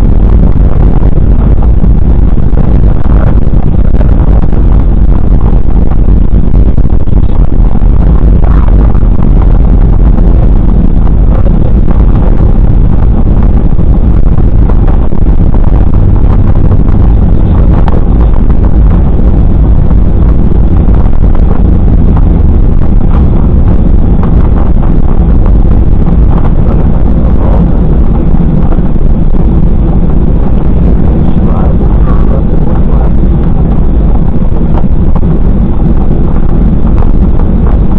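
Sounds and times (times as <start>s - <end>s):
airliner cabin engine rumble: 0.0s - 37.9s.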